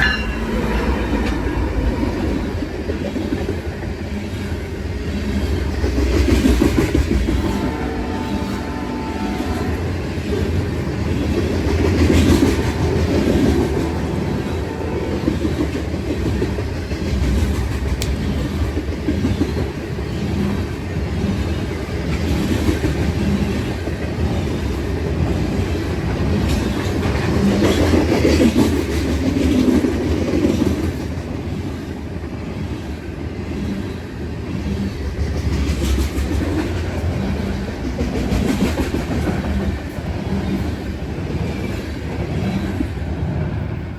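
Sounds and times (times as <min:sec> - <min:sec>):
train cars rumbling: 0:00.0 - 0:43.9.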